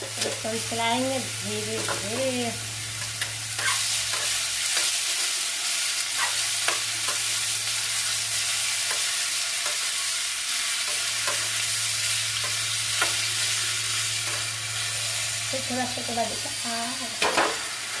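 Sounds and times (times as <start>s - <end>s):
apple sizzling in a pan: 0.0s - 18.0s.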